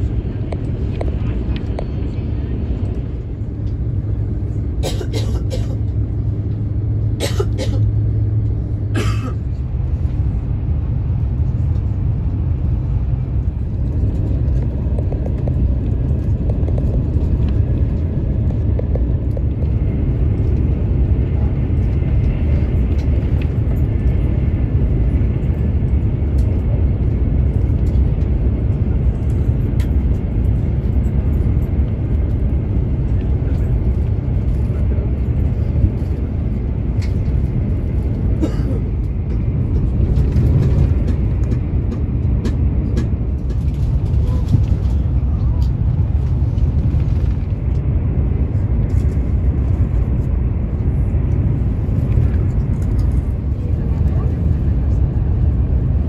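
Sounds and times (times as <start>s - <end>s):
train cabin low rumble: 0.0s - 56.0s.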